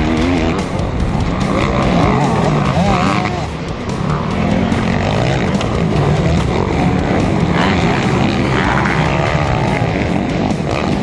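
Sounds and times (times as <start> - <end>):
motocross engines revving: 0.0 - 11.0.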